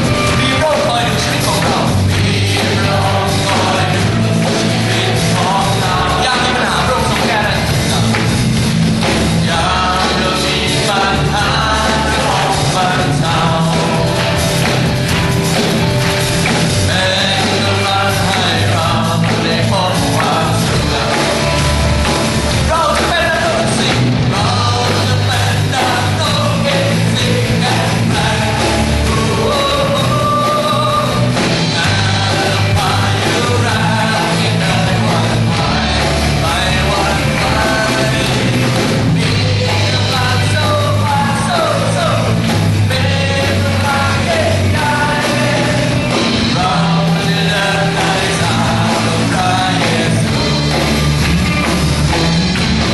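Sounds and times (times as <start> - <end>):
man singing into a microphone: 0.0 - 14.4, 16.7 - 21.6, 22.6 - 50.8
bass line: 0.0 - 52.9
live band playing: 0.0 - 52.9.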